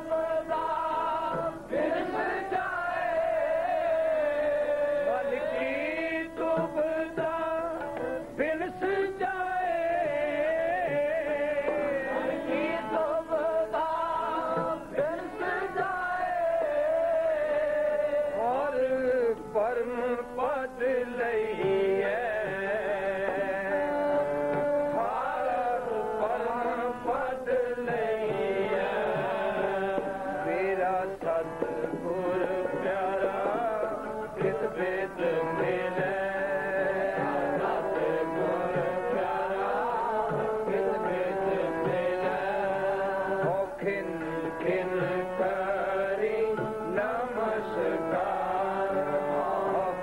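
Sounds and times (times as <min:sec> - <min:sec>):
harmonium held notes: 0:00.0 - 0:50.0
man singing a hymn: 0:00.0 - 0:50.0.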